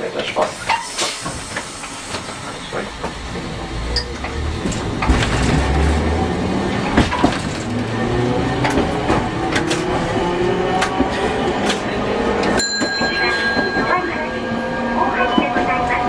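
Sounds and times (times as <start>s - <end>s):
tram motors whining: 0.2s - 16.0s.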